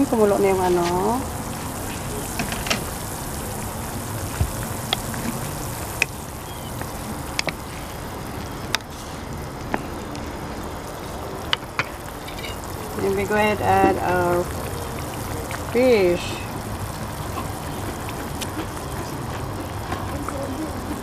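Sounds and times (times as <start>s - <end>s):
soup boiling in a pot: 0.0s - 21.0s.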